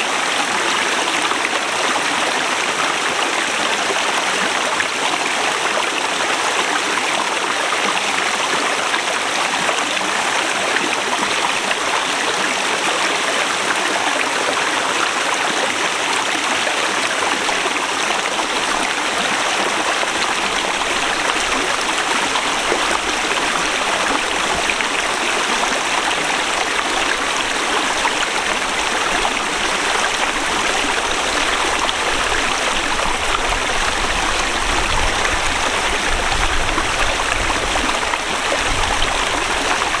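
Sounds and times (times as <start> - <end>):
river rushing over rocks: 0.0 - 40.0.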